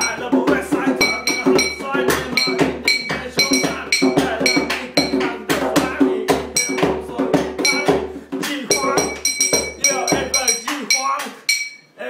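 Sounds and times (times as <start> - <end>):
man rapping: 0.0 - 11.5
cowbell-like percussive beat: 0.0 - 12.0.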